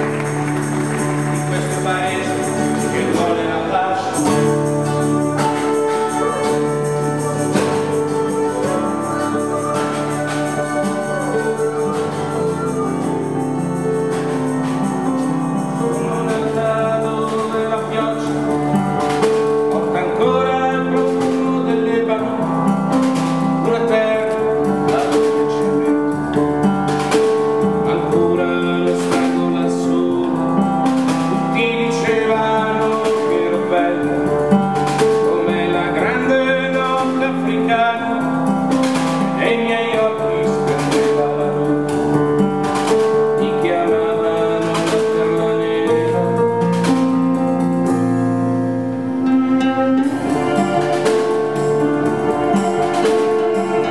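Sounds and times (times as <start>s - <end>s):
acoustic guitar strumming: 0.0s - 53.9s
long held keyboard notes: 0.0s - 53.9s
percussion hits: 0.0s - 53.9s.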